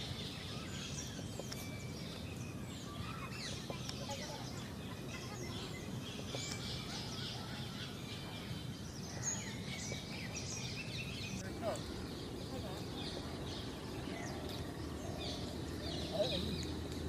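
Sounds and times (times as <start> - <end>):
birds chirping and singing: 0.0 - 17.0
low background rumble: 2.0 - 17.0.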